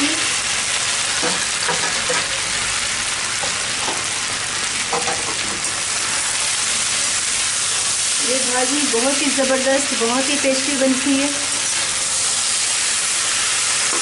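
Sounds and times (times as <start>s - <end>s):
potatoes sizzling: 0.0s - 14.0s.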